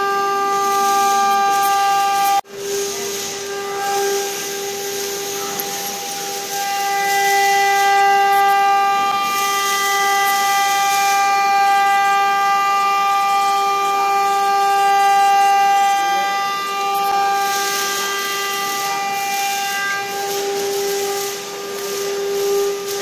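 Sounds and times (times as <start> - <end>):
high-pitched machinery whine: 0.0 - 23.0
hiss: 0.0 - 23.0.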